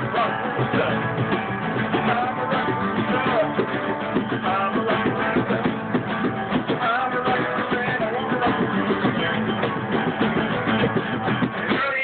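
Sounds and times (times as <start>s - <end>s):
acoustic guitar strumming: 0.0s - 12.0s
bongo drums: 0.0s - 12.0s.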